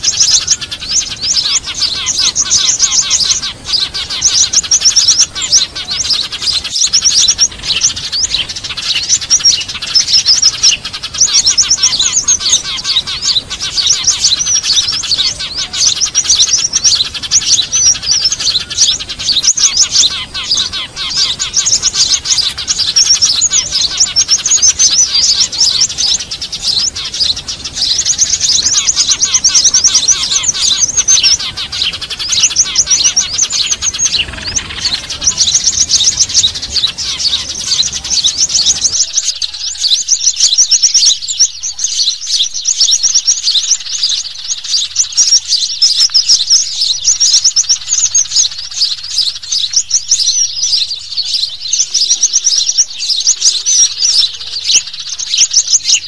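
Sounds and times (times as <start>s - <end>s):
small songbirds chirping and trilling: 0.0s - 56.0s.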